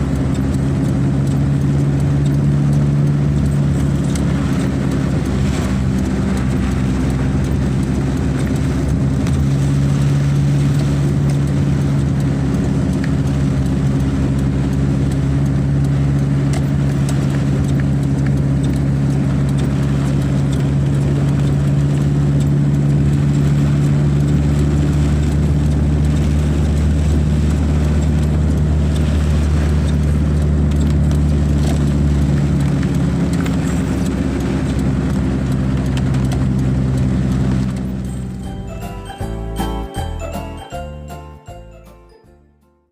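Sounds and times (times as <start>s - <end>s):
vehicle engine humming: 0.0s - 42.6s.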